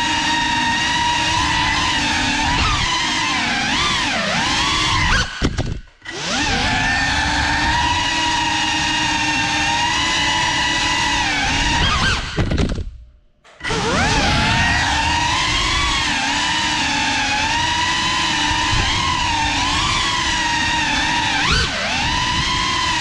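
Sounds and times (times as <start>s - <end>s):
drone propellers whining: 0.0s - 12.7s, 13.4s - 23.0s.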